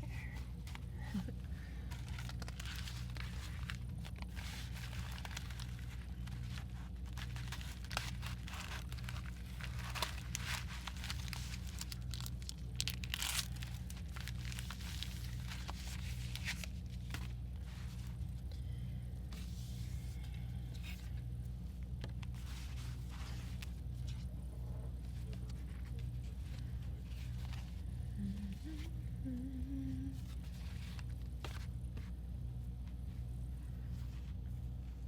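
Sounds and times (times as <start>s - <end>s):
low hum: 0.0s - 35.0s
paper rustling and crinkling: 0.4s - 18.5s, 19.2s - 28.0s, 30.1s - 35.0s.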